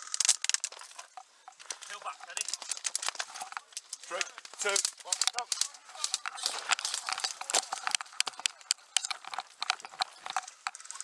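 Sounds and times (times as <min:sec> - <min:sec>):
gear and rifle clattering: 0:00.0 - 0:11.0
footsteps crunching on dirt: 0:00.8 - 0:11.0.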